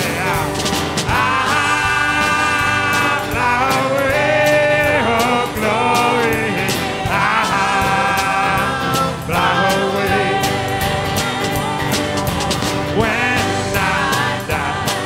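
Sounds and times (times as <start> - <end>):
live band music: 0.0 - 15.0
steady drum beat: 0.0 - 15.0.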